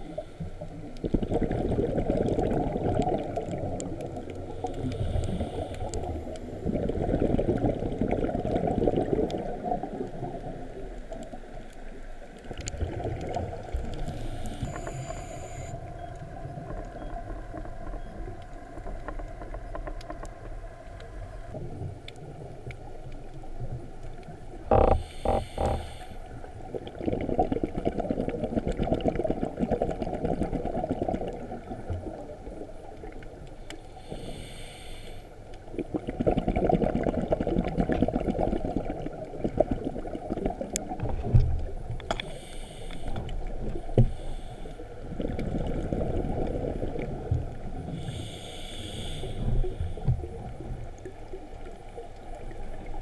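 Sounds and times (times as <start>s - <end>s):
regulator bubbles underwater: 0.0s - 34.4s, 35.3s - 53.0s.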